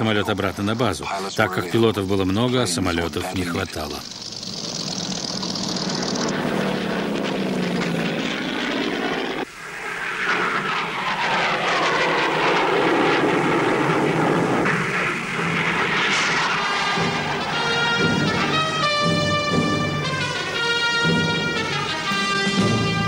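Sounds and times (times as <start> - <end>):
aircraft engine drone: 0.0 - 23.0
propeller aircraft passing by: 1.9 - 23.0.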